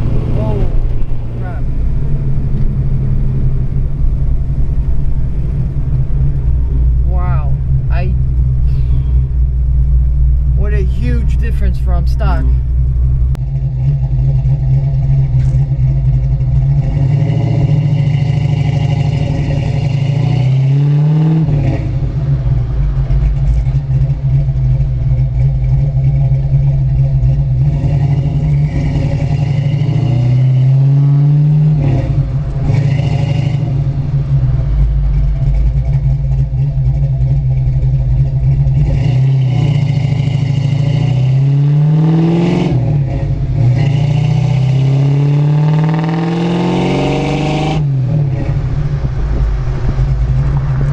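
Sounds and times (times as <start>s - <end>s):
car engine revving through gears: 0.0s - 50.9s.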